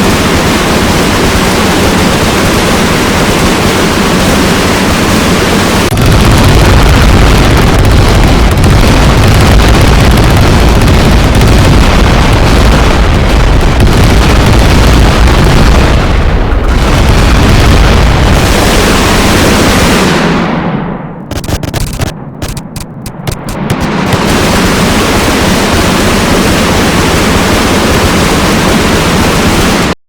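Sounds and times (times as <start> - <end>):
helicopter running close: 0.0 - 20.0, 21.3 - 29.7.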